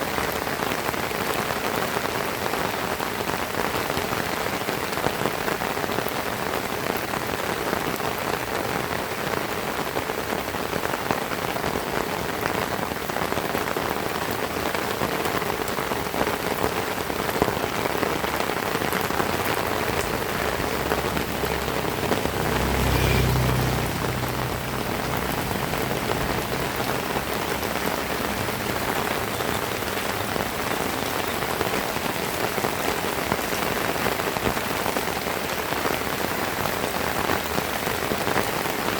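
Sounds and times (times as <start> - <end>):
heavy rain falling: 0.0 - 38.9
raindrop ticks: 3.8 - 38.9.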